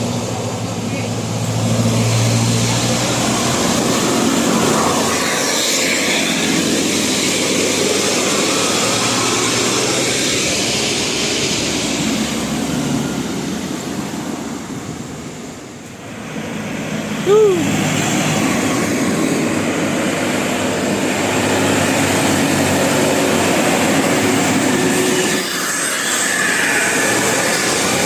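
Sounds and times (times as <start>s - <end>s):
bus driving past: 0.0s - 28.0s.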